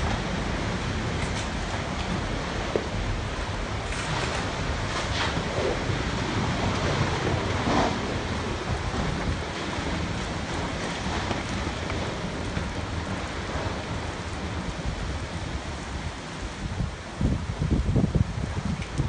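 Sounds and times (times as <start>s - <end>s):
rain: 0.0s - 19.0s
wind buffeting microphone: 0.0s - 19.0s.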